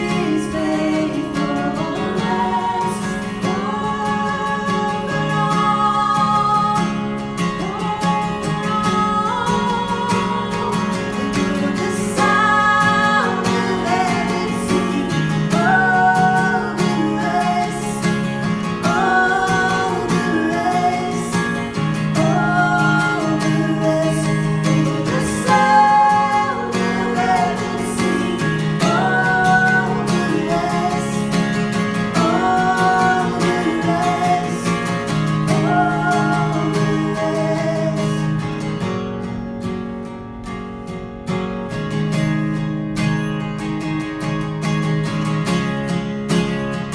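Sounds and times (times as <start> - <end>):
person singing long notes: 0.0 - 38.4
acoustic guitar strumming: 0.0 - 46.9.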